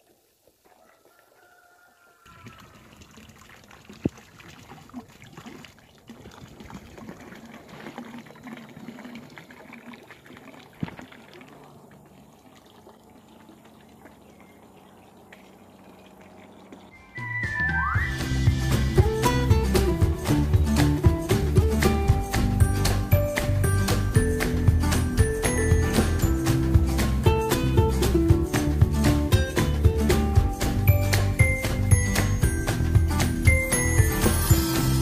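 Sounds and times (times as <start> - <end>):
water pouring into pond: 0.0 - 35.0.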